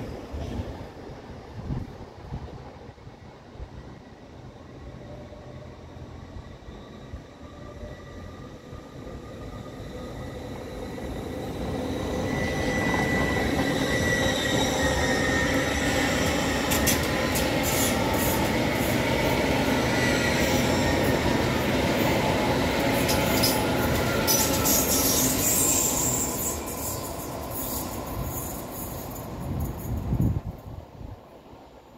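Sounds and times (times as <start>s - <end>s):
train electric whine: 3.8s - 30.5s.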